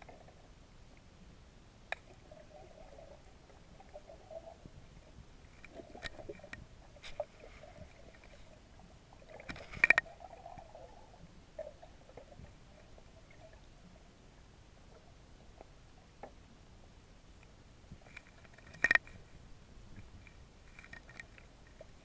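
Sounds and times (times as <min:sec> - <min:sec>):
muffled underwater clicks and crackles: 0:00.0 - 0:22.0.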